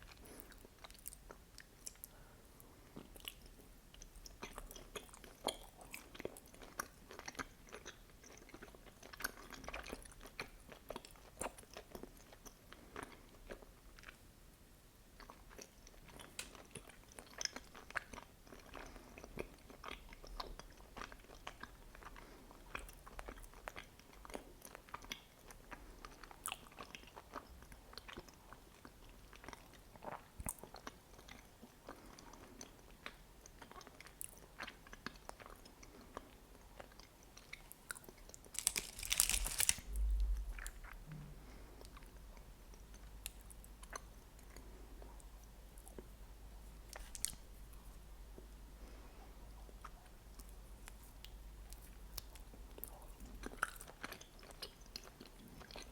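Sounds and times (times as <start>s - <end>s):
chewing sticky food: 0.0s - 14.2s, 15.1s - 55.9s.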